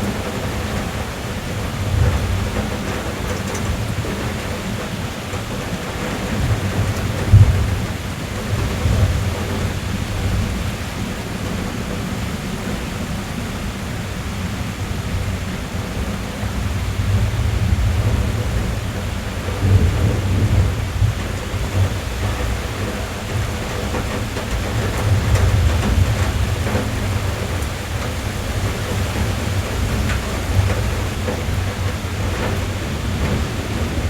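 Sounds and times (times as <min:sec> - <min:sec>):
rain drumming on car roof: 0:00.0 - 0:34.0
thunder rumbling: 0:00.0 - 0:34.0.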